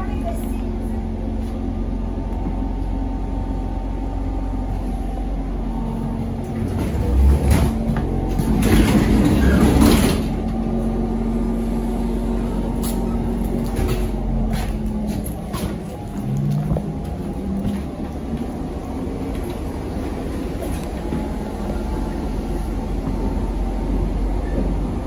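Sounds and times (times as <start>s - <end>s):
low running rumble: 0.0s - 25.0s.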